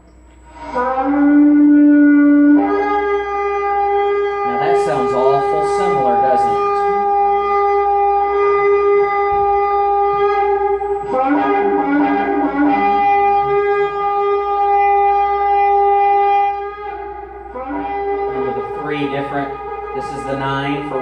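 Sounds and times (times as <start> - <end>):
ram's horn blowing long blasts: 0.4 - 21.0.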